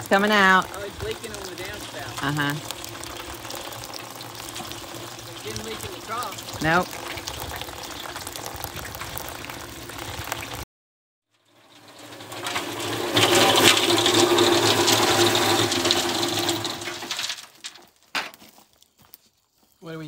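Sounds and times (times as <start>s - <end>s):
cement mixer motor hum: 0.0s - 10.6s, 11.6s - 17.4s
rainwater running from downspout: 0.0s - 10.6s, 11.3s - 20.0s
rocks rattling in mixer drum: 0.0s - 10.6s, 11.5s - 18.7s.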